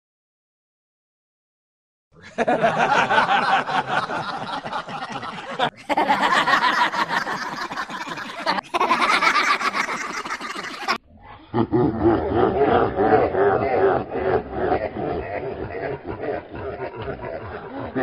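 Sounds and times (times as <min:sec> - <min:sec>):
people laughing: 0:02.2 - 0:18.0.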